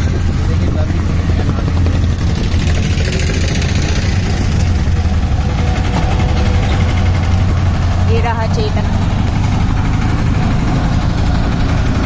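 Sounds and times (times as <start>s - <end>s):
auto-rickshaw engine droning: 0.0s - 12.0s
street traffic: 0.0s - 12.0s.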